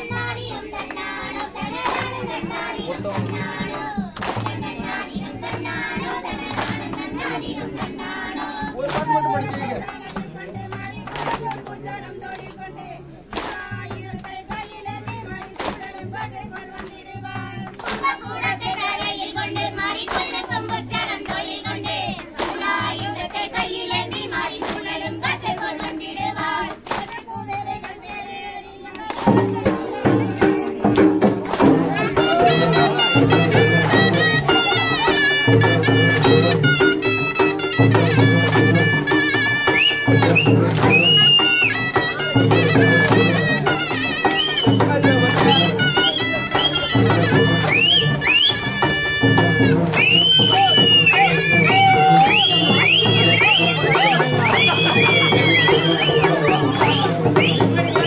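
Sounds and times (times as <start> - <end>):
folk song with low beat: 0.0 - 58.0
women clapping in unison: 0.0 - 58.0.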